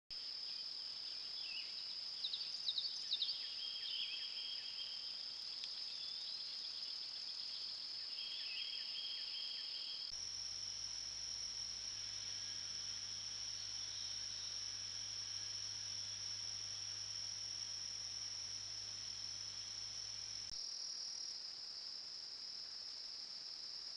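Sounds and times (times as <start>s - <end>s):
faint low hum: 0.2s - 20.6s
insects droning in grass: 0.2s - 23.9s.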